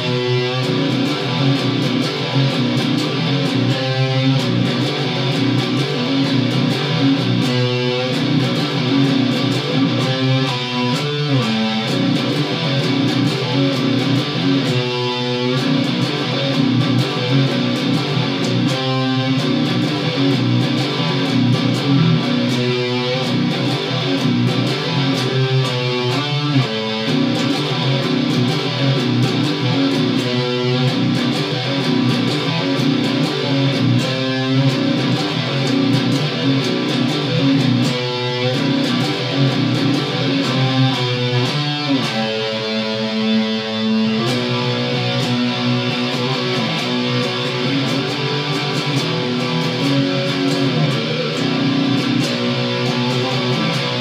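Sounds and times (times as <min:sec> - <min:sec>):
distorted electric guitar riff: 0:00.0 - 0:54.0.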